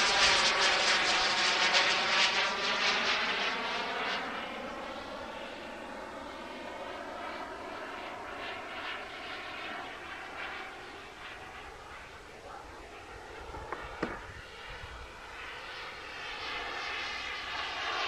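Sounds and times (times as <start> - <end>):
model jet motor whine: 0.0 - 18.0.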